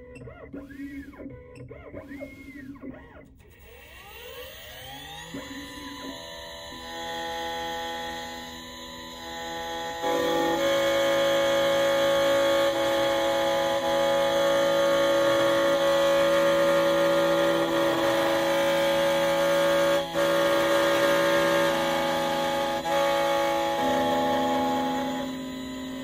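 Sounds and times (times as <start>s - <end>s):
key cutting machine whine: 3.6s - 26.0s.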